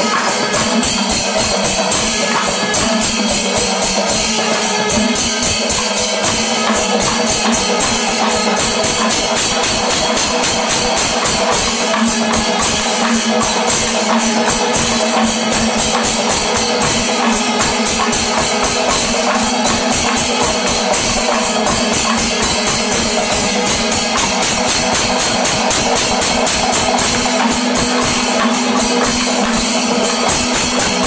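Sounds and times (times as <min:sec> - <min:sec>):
clashing cymbals: 0:00.0 - 0:31.0
fast drum strokes: 0:00.0 - 0:31.0.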